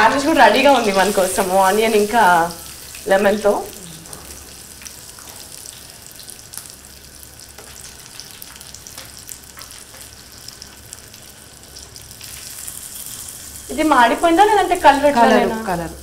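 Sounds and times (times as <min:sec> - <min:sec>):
oil sizzling in a frying pan: 0:00.0 - 0:16.0.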